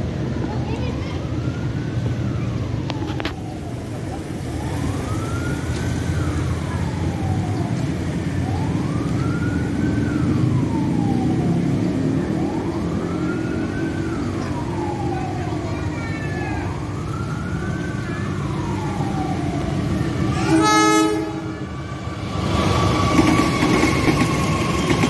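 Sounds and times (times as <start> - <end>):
wailing siren: 0.1 - 25.0.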